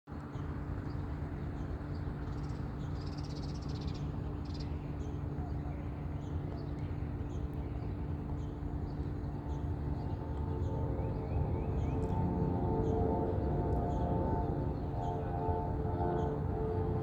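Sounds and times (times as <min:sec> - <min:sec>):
jet engines droning: 0:00.7 - 0:17.0.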